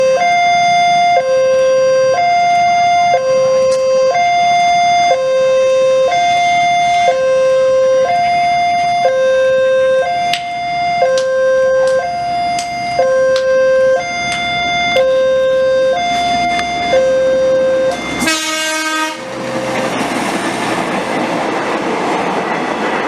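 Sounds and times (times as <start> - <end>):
two-tone hi-lo siren: 0.0 - 19.7.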